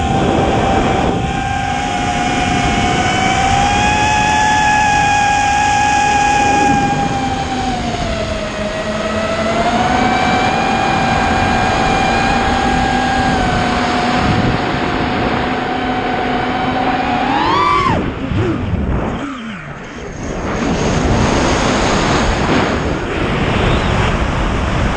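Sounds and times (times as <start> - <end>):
quadcopter motors whining: 0.0 - 24.8.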